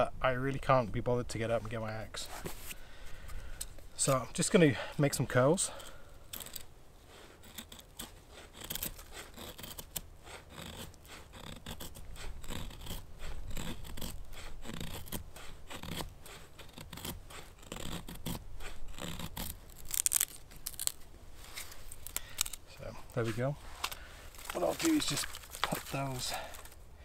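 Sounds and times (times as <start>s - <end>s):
knife scraping wood: 1.6s - 26.8s.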